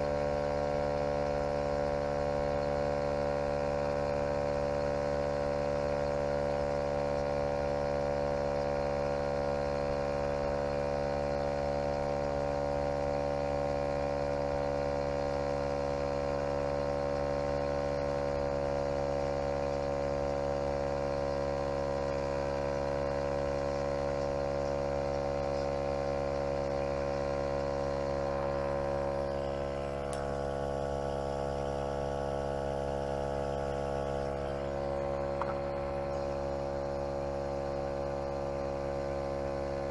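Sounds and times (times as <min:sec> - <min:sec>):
tyre inflator humming: 0:00.0 - 0:39.9.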